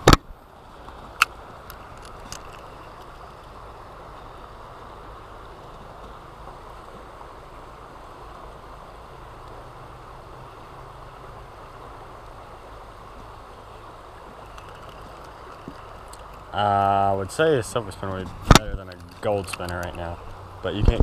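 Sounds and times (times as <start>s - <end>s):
river water flowing over rocks: 0.0s - 21.0s.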